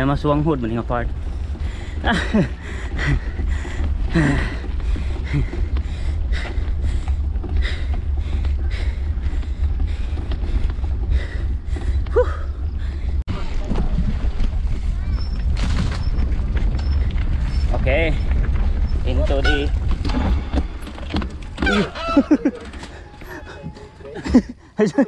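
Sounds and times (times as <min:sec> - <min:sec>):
bike tyre rumble on pavement: 0:00.0 - 0:23.6
wind buffeting camera: 0:00.0 - 0:23.6
bike rattles and knocks: 0:00.0 - 0:25.0.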